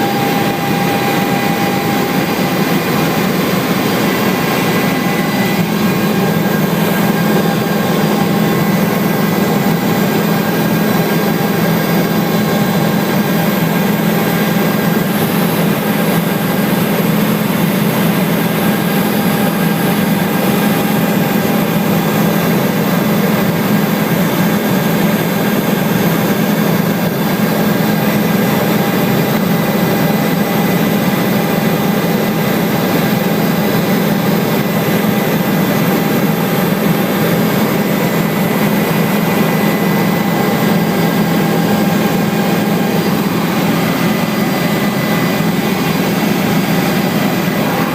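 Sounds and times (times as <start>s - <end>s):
helicopter cabin drone: 0.0s - 47.9s.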